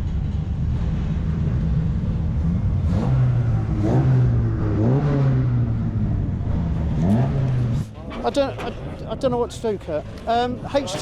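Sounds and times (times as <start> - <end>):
car engine running and revving: 0.0 - 9.3.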